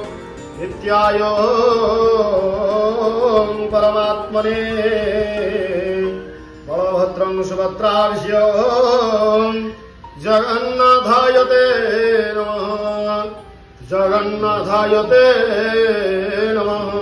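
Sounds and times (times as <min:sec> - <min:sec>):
mantras chanted melodically: 0:00.0 - 0:17.0
steady drone: 0:00.0 - 0:17.0.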